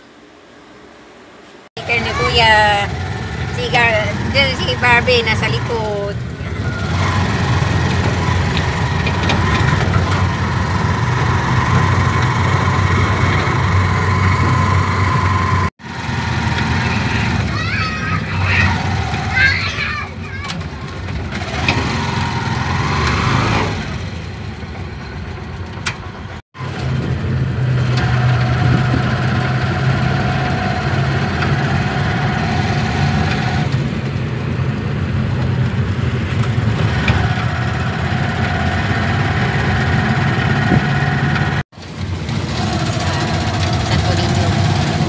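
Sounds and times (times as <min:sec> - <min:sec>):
road noise: 0:00.0 - 0:45.0
vehicle engine hum from inside: 0:01.8 - 0:45.0.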